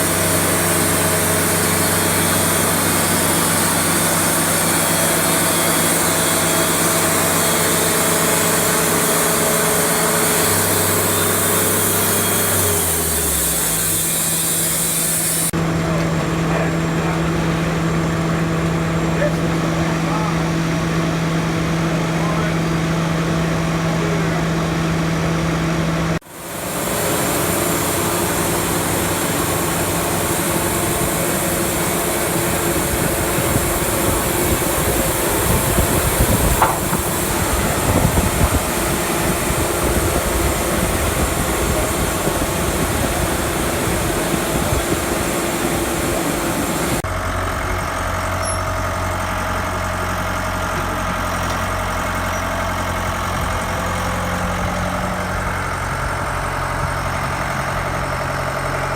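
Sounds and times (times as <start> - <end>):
engine hum: 0.0 - 58.9
sawmill running: 0.0 - 58.9.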